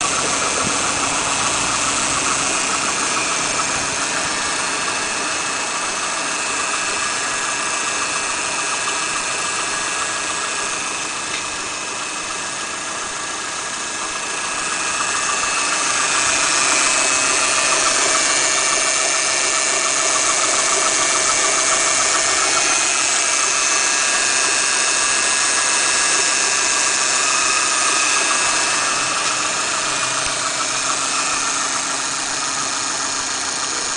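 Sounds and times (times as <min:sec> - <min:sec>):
power steering hum: 0:00.0 - 0:33.9.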